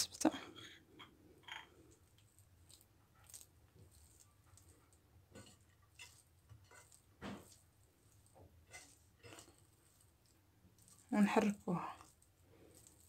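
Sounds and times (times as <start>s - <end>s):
soft squishes and rustles: 0.0s - 13.0s.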